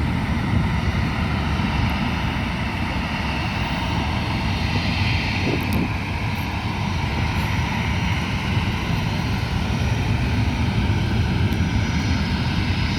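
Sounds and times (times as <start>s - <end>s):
jet engines rumbling: 0.0s - 12.9s.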